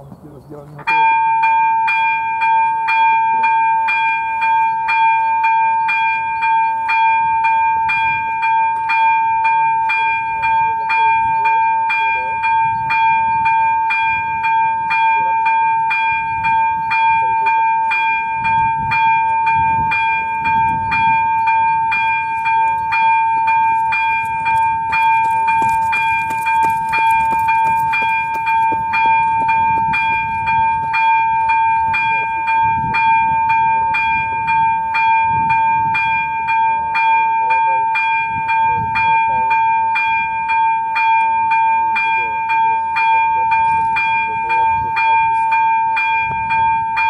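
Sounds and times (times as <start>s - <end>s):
level crossing bell ringing: 0.8s - 47.0s.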